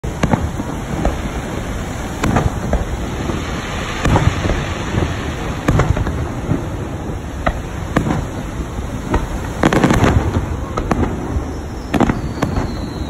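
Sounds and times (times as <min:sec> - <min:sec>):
steady rushing background noise: 0:00.0 - 0:11.7
fireworks bursting: 0:00.0 - 0:13.0.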